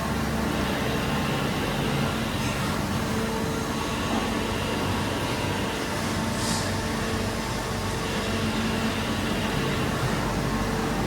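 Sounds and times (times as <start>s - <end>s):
industrial machinery hum: 0.0s - 11.0s.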